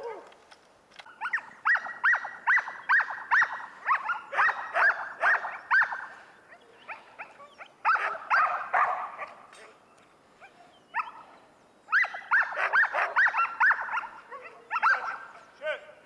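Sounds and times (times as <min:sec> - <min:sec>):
dogs barking: 0:01.1 - 0:09.7, 0:10.4 - 0:15.7.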